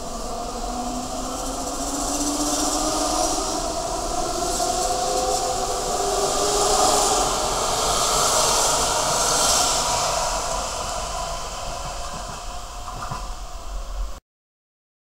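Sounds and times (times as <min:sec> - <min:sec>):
wheels hissing on rail: 0:00.0 - 0:14.2.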